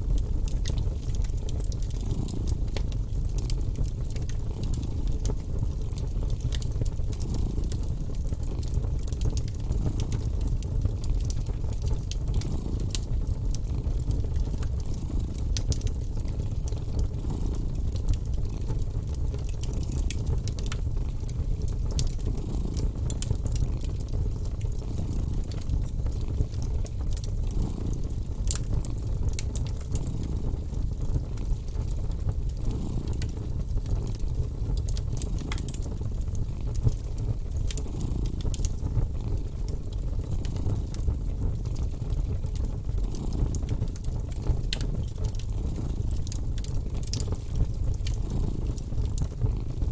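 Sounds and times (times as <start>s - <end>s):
fireplace crackling and popping: 0.0s - 49.9s
cat purring: 0.7s - 44.6s, 45.2s - 49.7s.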